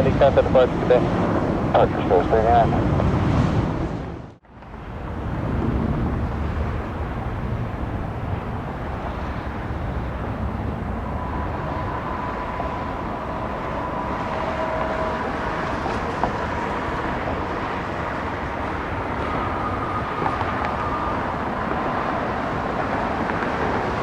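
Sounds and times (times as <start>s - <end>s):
high steady whine: 0.0s - 2.9s, 4.2s - 24.0s
jet engines rumbling: 0.0s - 24.0s.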